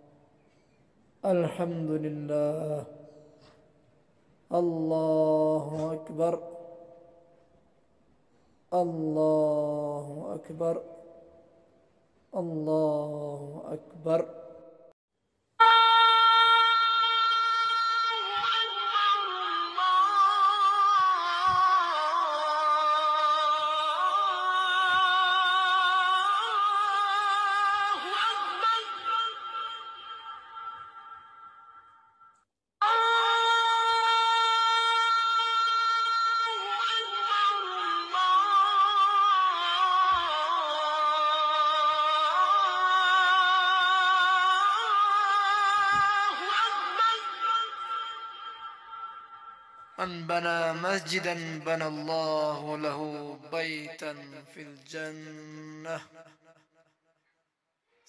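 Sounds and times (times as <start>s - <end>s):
person chanting devotional phrases: 1.2s - 3.8s, 4.4s - 7.3s, 8.6s - 11.7s, 12.3s - 14.9s, 15.6s - 31.8s, 32.8s - 56.7s.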